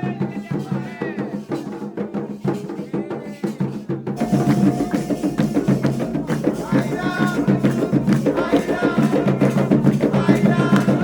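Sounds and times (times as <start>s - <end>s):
hand drums fast rhythm: 0.0s - 11.0s
voices singing: 0.0s - 11.0s.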